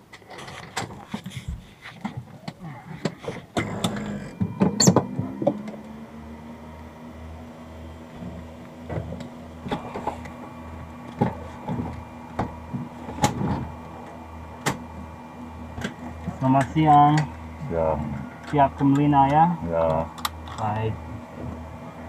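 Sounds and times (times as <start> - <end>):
steady throbbing hum: 3.6 - 22.0.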